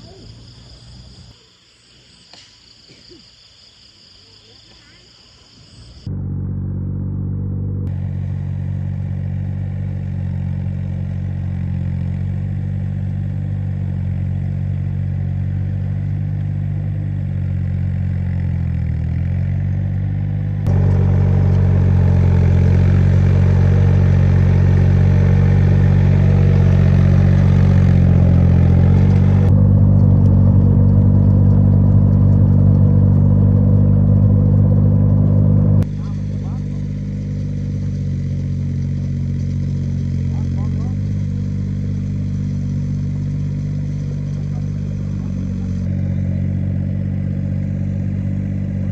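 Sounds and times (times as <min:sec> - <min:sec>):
engine running steadily: 0:06.0 - 0:48.9.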